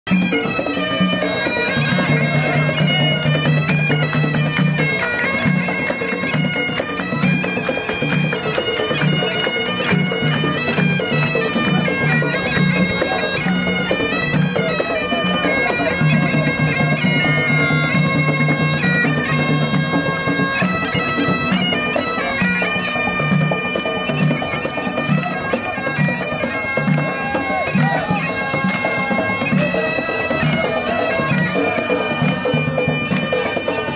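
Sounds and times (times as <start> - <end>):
bagpipe band playing: 0.1 - 33.9.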